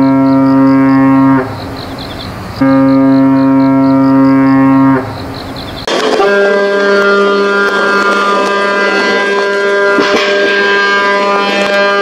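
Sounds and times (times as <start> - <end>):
deep ship's horn blast: 0.0 - 1.6, 2.6 - 5.2, 5.9 - 12.0
higher-pitched ship's horn: 0.0 - 1.6, 2.6 - 5.2, 5.9 - 12.0.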